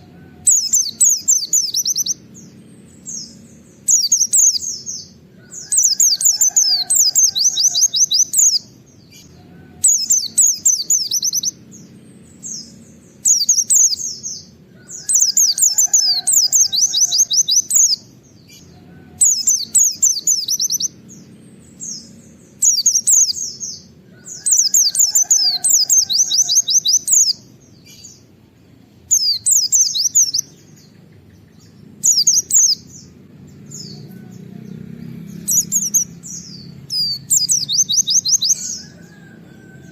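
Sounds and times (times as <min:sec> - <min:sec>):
bird rapid high twittering: 0:00.0 - 0:28.3, 0:29.0 - 0:39.9.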